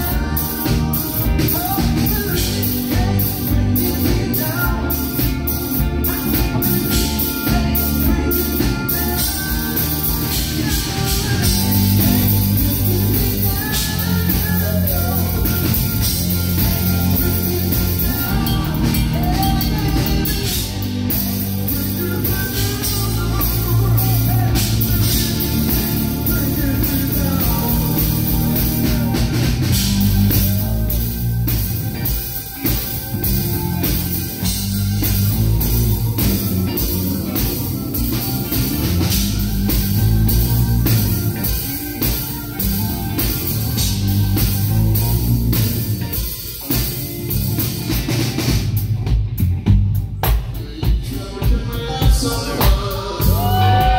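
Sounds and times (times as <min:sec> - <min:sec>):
man singing lead vocal: 0:00.0 - 0:44.0, 0:50.2 - 0:53.9
live rock band playing: 0:00.0 - 0:53.9.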